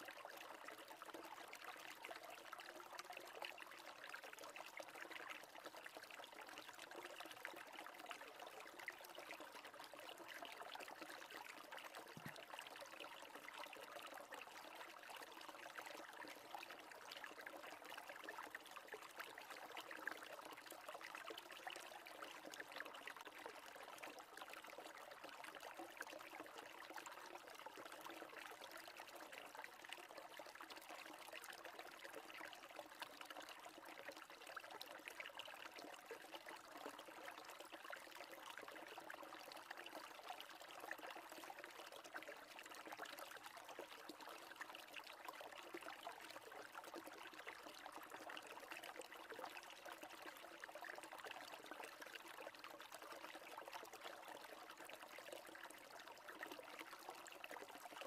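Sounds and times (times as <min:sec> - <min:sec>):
faint trickling water: 0:00.0 - 0:58.0.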